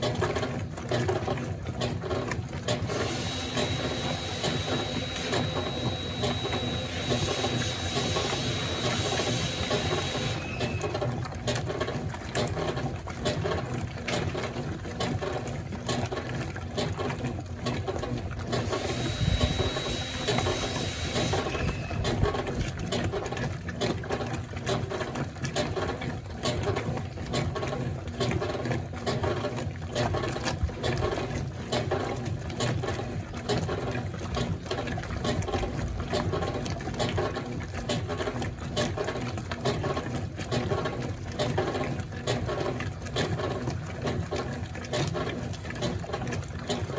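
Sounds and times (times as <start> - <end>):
washing machine churning: 0.0 - 46.9.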